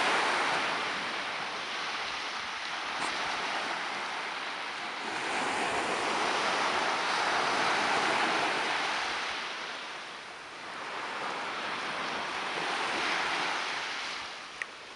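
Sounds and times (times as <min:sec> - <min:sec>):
sea waves washing ashore: 0:00.0 - 0:14.9.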